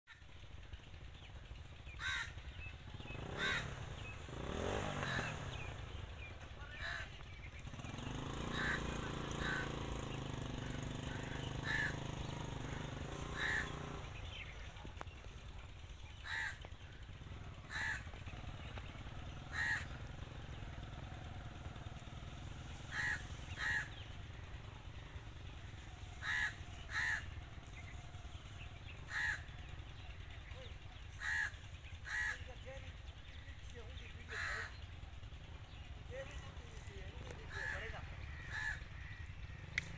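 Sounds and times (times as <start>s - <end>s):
harsh bird calls: 0.1s - 39.9s
motor engine passing: 0.1s - 39.9s.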